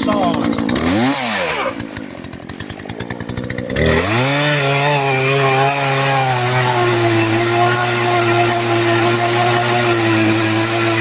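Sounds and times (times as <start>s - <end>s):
chainsaw cutting into log: 0.0s - 11.0s.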